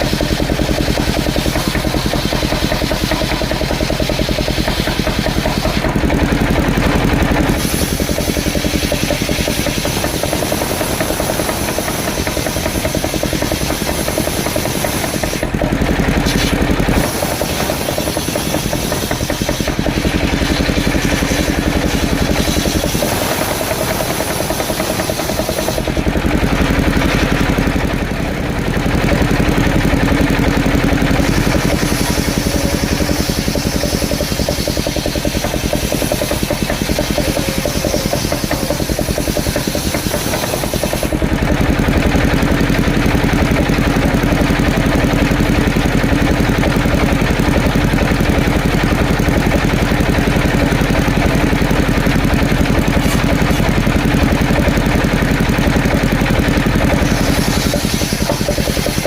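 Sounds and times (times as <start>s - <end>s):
circular sawmill sawing logs: 0.0s - 59.0s.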